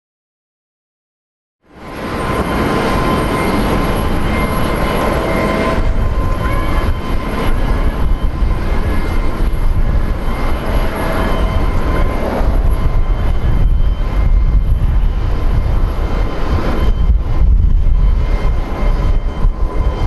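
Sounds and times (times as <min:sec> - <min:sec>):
faint whining tones: 0:01.7 - 0:20.0
jet engines roaring: 0:01.7 - 0:20.0.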